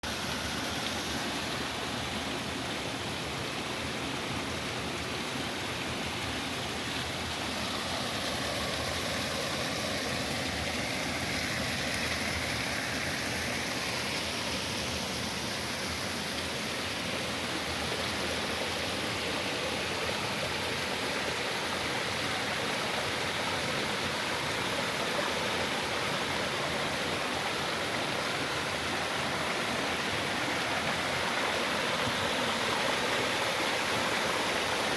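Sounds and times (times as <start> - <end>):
water rushing: 0.0 - 34.9.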